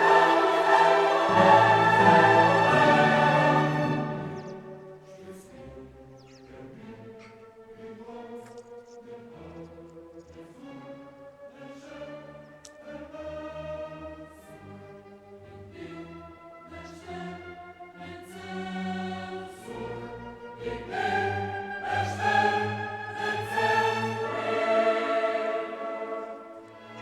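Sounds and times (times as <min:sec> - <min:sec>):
choir singing with orchestra: 0:00.0 - 0:27.0.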